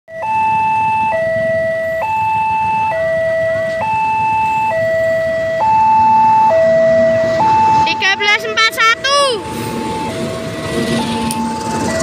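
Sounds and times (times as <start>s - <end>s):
level crossing two-tone alarm: 0.1s - 12.0s.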